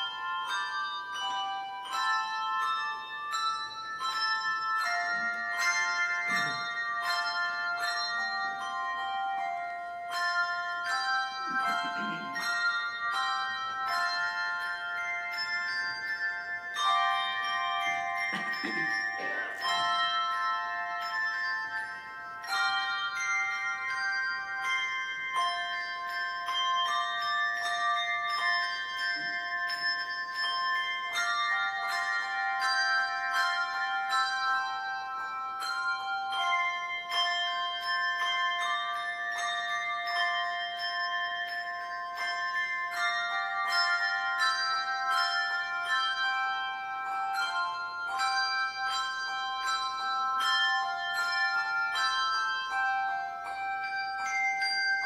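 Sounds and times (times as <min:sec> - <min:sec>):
handbell choir playing: 0:00.0 - 0:55.0.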